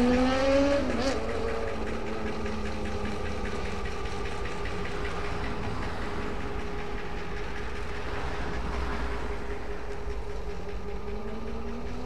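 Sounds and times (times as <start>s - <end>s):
constant whine: 0.0s - 12.0s
locomotive engine drone: 0.0s - 12.0s.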